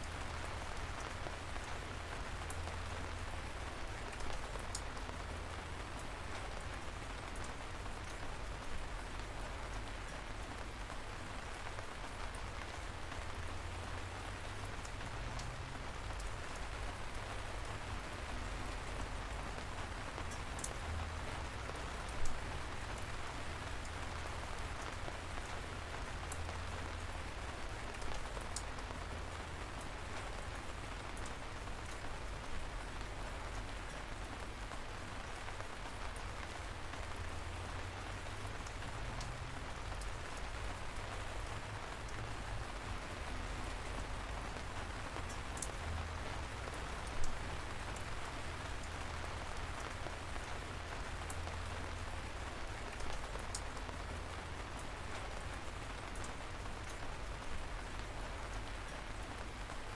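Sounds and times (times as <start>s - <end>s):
light rain falling: 0.0s - 59.9s
raindrops ticking: 0.0s - 59.9s.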